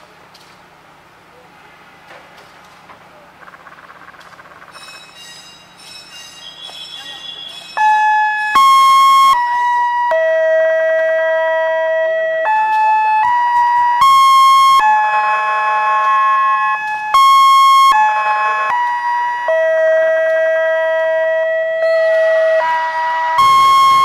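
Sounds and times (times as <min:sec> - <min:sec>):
slow electronic melody: 0:04.5 - 0:24.0.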